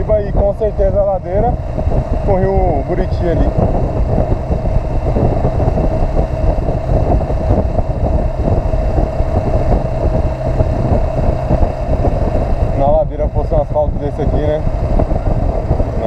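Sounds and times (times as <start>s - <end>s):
motorcycle engine cruising: 0.0s - 16.0s
wind rumble on microphone: 0.0s - 16.0s.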